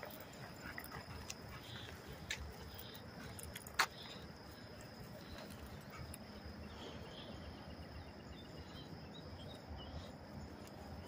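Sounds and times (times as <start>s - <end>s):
high insect-like hum: 0.0s - 11.0s
faint bird chirps: 1.5s - 11.0s.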